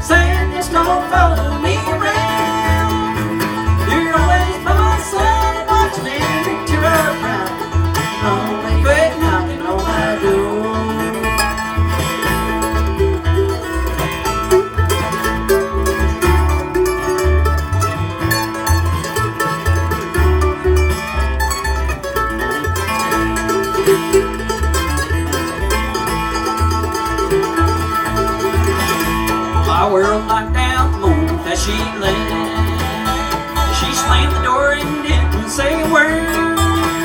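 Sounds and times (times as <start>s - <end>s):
bass thumping: 0.0s - 37.0s
bluegrass band playing: 0.0s - 37.0s.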